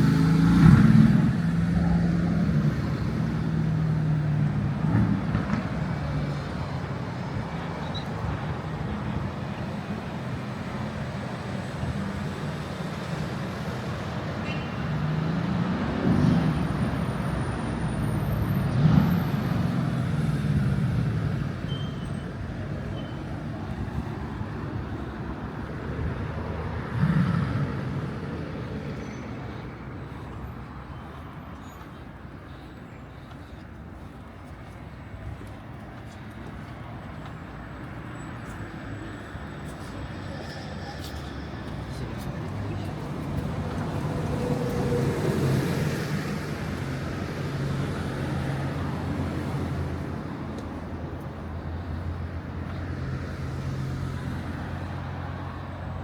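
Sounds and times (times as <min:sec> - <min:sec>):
cars driving past: 0:00.0 - 0:56.0.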